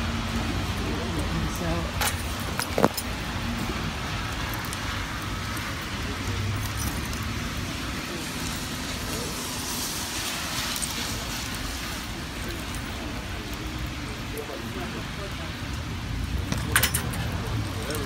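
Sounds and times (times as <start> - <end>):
car traffic on wet road: 0.0 - 18.0
rain hissing: 0.0 - 18.0.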